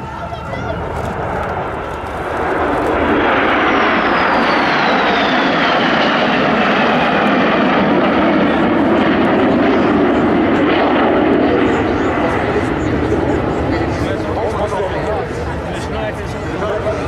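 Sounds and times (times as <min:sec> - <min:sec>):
jet roar: 0:00.0 - 0:17.0.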